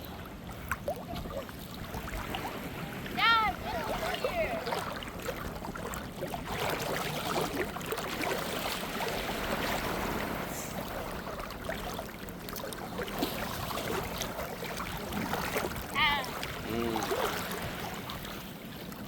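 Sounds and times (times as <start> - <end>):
sea water lapping at shore: 0.0 - 19.0.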